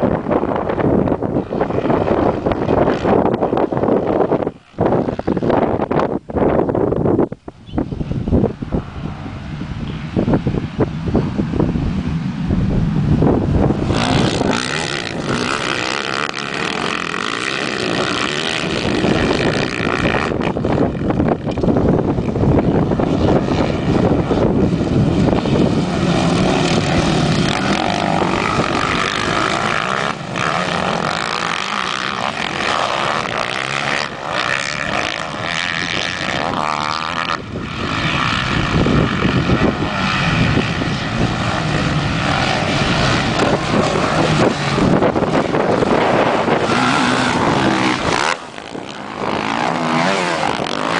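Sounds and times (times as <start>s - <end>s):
motocross bikes revving past: 8.7s - 50.9s.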